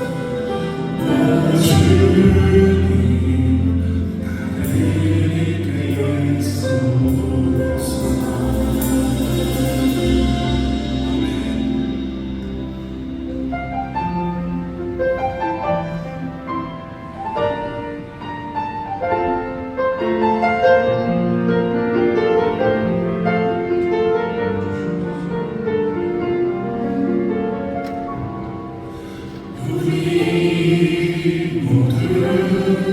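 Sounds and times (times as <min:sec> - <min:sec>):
piano music: 0:00.0 - 0:32.9.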